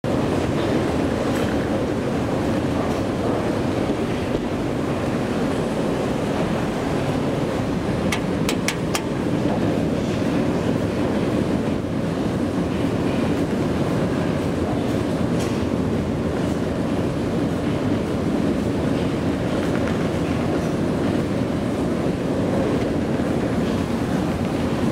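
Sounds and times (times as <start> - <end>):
elevator car rumbling: 0.0 - 24.9.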